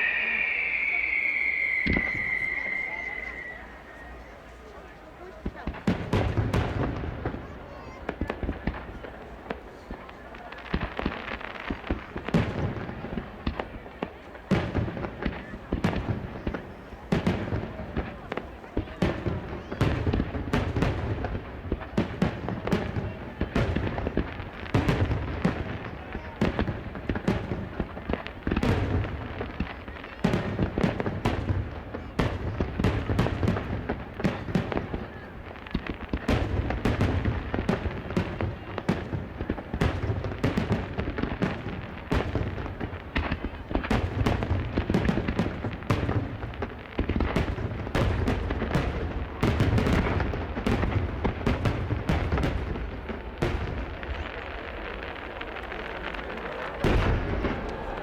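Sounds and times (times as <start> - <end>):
fireworks bursts: 0.0 - 58.0
fireworks crackling: 0.0 - 58.0.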